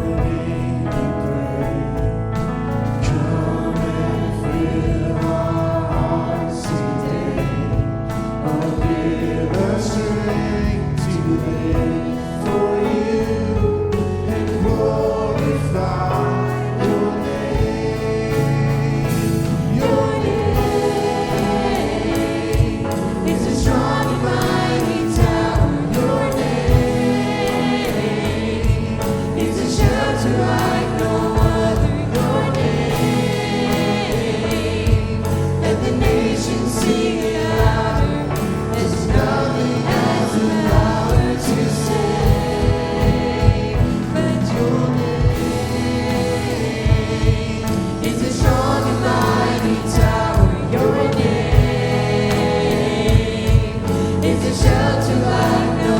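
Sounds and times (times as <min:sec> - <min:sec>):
band playing: 0:00.0 - 0:55.9
bass notes: 0:00.0 - 0:55.9
people singing worship music: 0:00.0 - 0:55.9
drum beat: 0:03.0 - 0:55.9.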